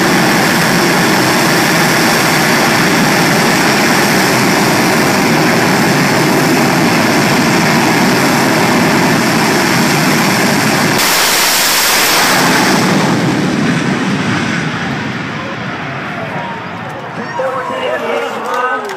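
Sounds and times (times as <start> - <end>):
afterburner roar: 0.0 - 18.9
jet engine running: 0.0 - 18.9.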